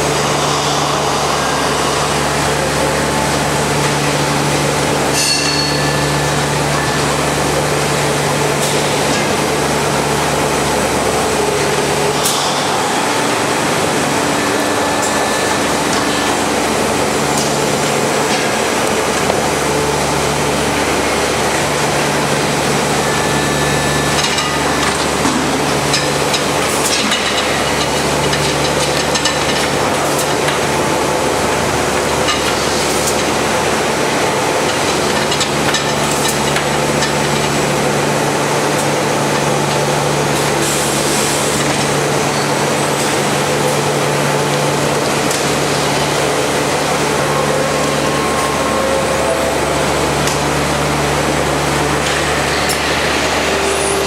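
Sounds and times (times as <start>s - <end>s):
machinery low hum: 0.0s - 54.0s.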